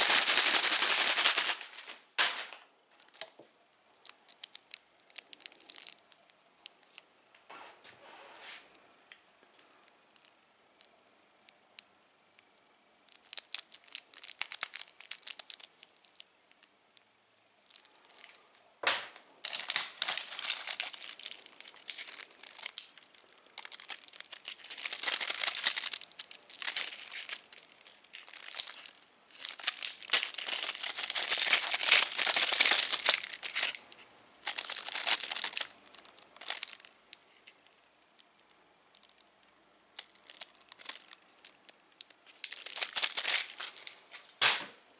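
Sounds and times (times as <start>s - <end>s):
plastic wrappers crinkling: 0.0s - 7.1s, 9.5s - 11.0s, 13.1s - 16.7s, 17.6s - 44.7s.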